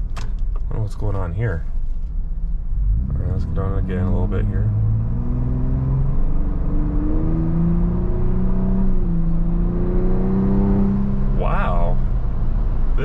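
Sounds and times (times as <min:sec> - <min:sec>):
car engine accelerating: 0:02.2 - 0:13.0.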